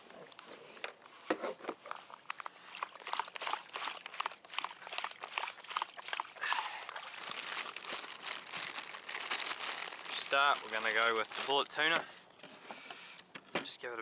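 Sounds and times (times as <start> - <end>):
rustling and crinkling handling: 0.0 - 13.4.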